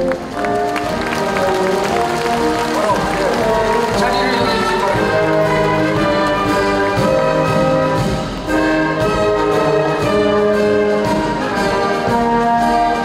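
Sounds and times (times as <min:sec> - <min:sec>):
brass-led orchestral music: 0:00.0 - 0:13.0.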